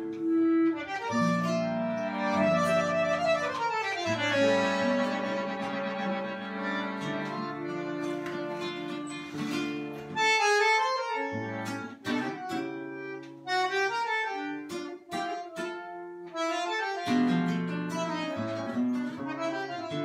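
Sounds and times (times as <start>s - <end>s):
bandoneon chords: 0.0s - 20.0s
plucked acoustic guitar: 0.0s - 20.0s.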